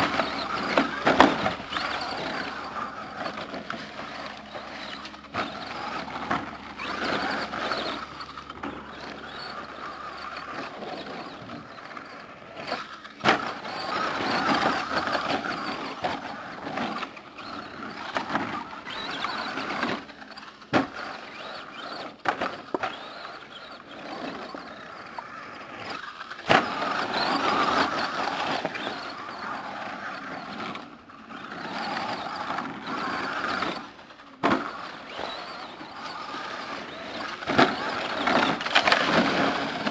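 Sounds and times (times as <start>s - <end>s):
electric rc truck motor and gears: 0.0s - 39.9s.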